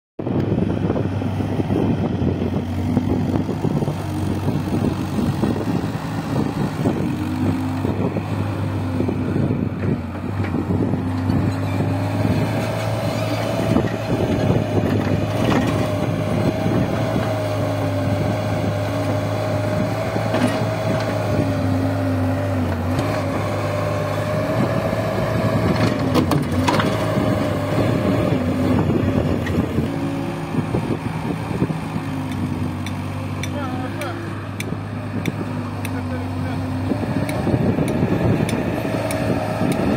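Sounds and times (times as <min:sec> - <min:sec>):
diesel loader engine under load: 0:00.2 - 0:39.9.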